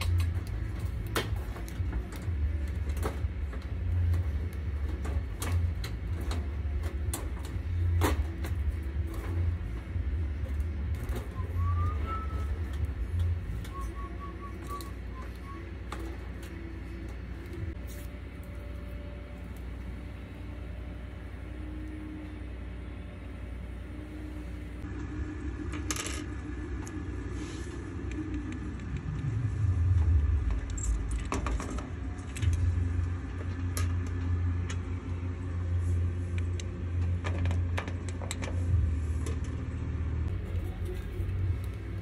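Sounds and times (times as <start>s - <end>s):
low rumble: 0.0s - 42.0s.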